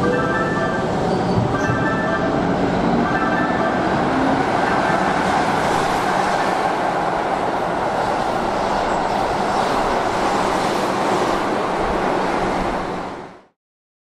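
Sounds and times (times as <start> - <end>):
train wheels rumbling on rail: 0.1 - 13.4.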